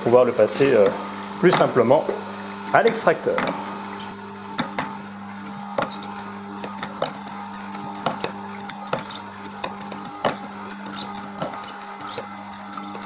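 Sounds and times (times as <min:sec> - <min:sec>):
juicer motor hum: 0:00.0 - 0:13.0.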